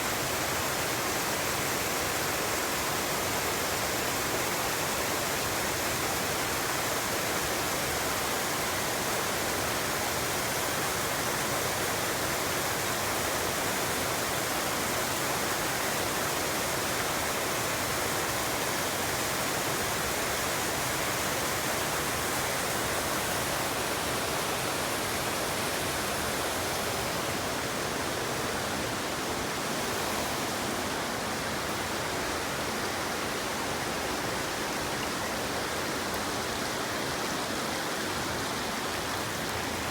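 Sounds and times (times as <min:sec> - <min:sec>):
small waterfall pouring: 0:00.0 - 0:39.9.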